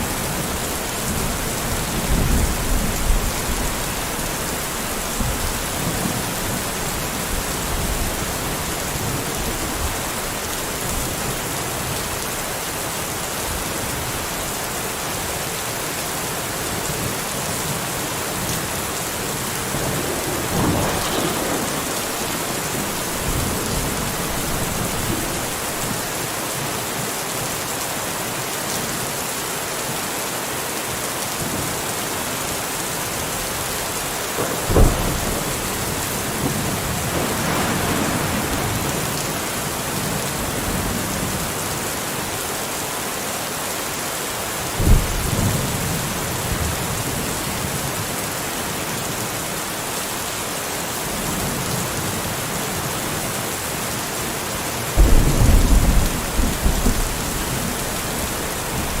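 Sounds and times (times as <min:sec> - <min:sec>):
steady dense rain: 0:00.0 - 0:59.0.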